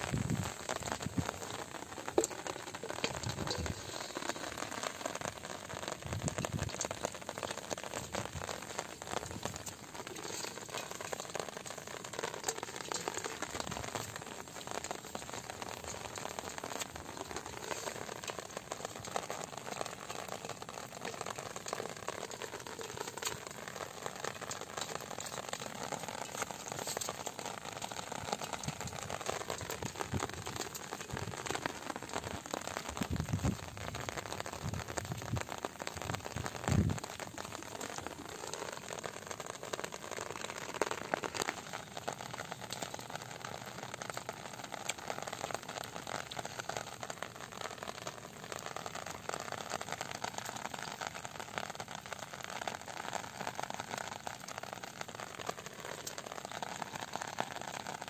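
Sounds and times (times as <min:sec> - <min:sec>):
rain falling on grass and puddles: 0:00.0 - 0:58.0.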